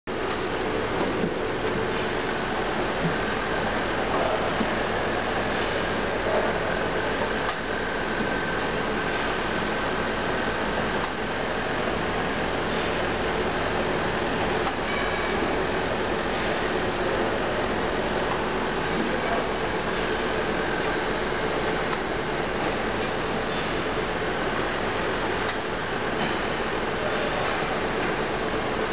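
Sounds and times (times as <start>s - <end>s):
faint constant whine: 0.1s - 28.9s.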